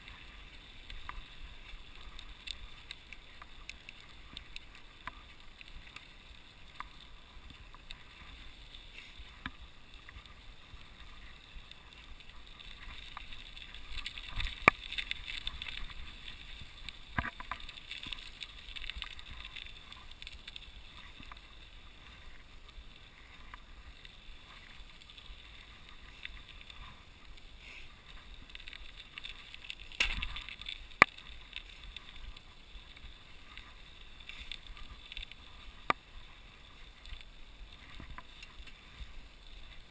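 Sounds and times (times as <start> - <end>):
bike tyres hissing through slush: 0.0 - 39.9.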